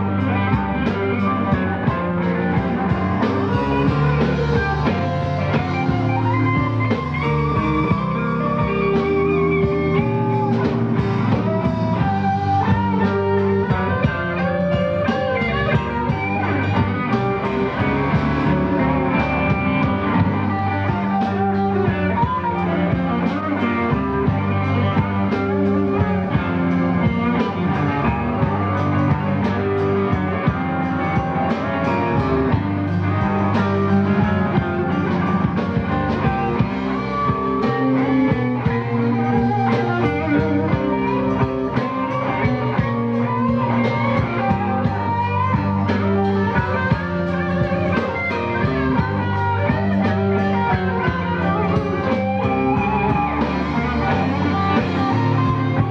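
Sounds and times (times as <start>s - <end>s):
bass guitar: 0.0s - 55.9s
electric guitar: 0.0s - 55.9s.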